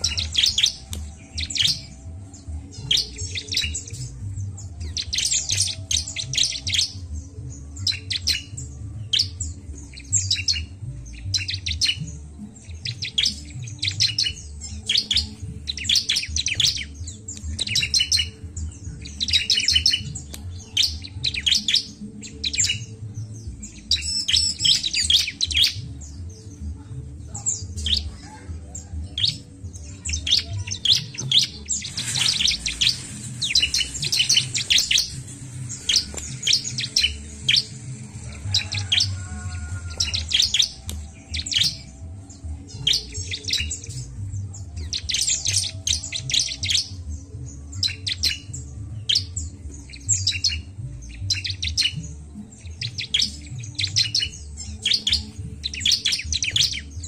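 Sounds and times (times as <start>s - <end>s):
bird chirping in high trills: 0.0s - 26.2s, 27.6s - 57.0s.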